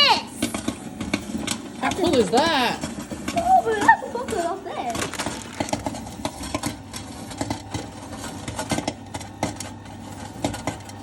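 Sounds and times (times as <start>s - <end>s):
popcorn machine hum: 0.0s - 11.0s
popcorn popping: 0.0s - 11.0s.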